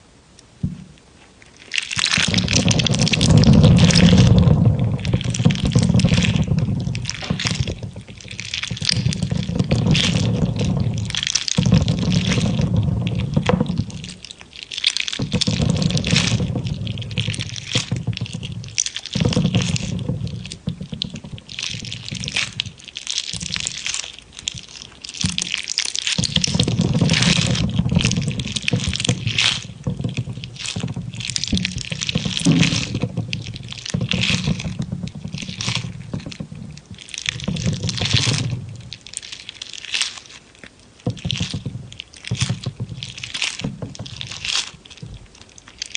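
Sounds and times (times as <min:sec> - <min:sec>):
jelly squelching and popping: 0:00.0 - 0:45.9.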